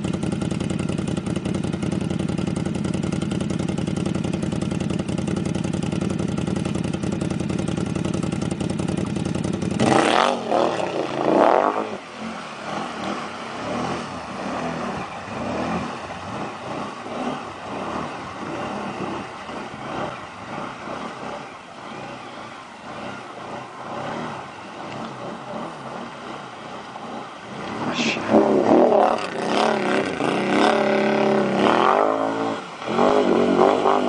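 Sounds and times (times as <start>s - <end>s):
atv engine revving: 0.0s - 34.0s
vehicle driving through water: 0.0s - 34.0s.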